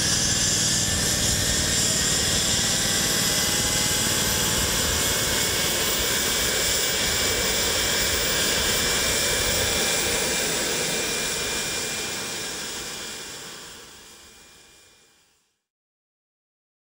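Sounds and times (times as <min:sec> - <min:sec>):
jet turbine engine roaring: 0:00.0 - 0:14.9
thin turbine whine: 0:00.0 - 0:15.3.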